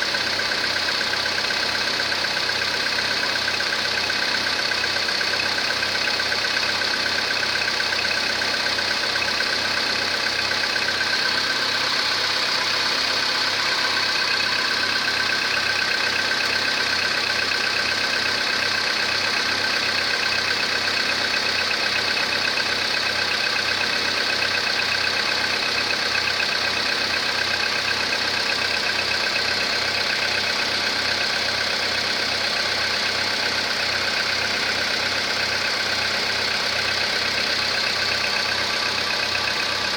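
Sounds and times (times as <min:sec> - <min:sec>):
car engine idling: 0:00.0 - 0:39.9
light rhythmic engine knock: 0:00.0 - 0:39.9.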